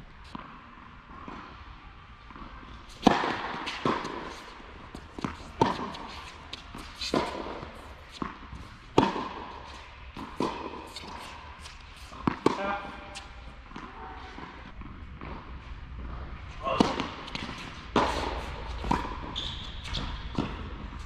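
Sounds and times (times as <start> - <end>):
tennis ball struck by racquets: 2.3 - 15.4, 16.6 - 21.0
tennis ball bouncing: 2.3 - 21.0.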